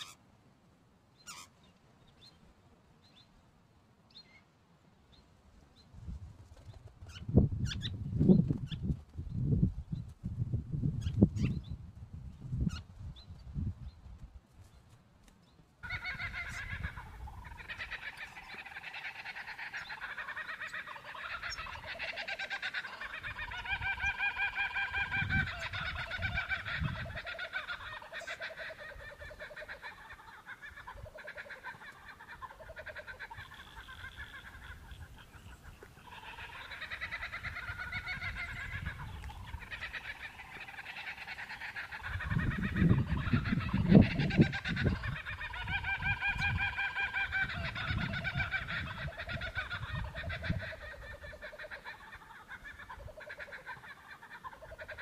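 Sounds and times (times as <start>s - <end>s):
birds calling rapidly: 0.0s - 0.2s, 1.2s - 2.4s, 6.6s - 10.1s, 15.4s - 55.0s.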